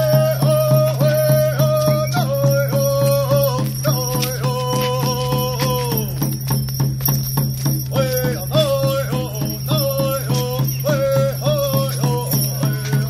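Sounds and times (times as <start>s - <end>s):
person singing: 0.0s - 6.3s, 7.9s - 13.0s
fast drumbeat: 0.0s - 13.0s
jingling shaken percussion: 0.0s - 13.0s.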